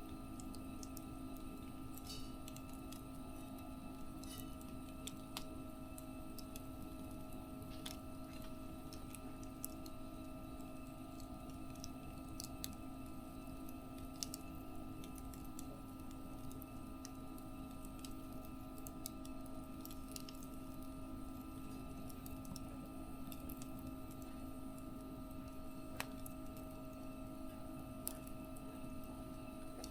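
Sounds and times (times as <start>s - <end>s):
steady low hum: 0.0s - 29.9s
wood fire crackling: 0.0s - 29.9s.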